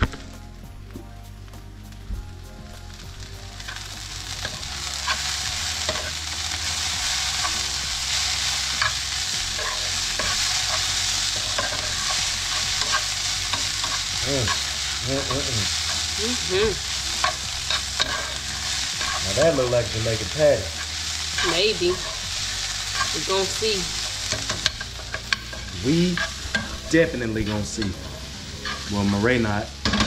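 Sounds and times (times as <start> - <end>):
meat sizzling in a frying pan: 2.3 - 30.0
spoon scraping a pan: 4.4 - 30.0.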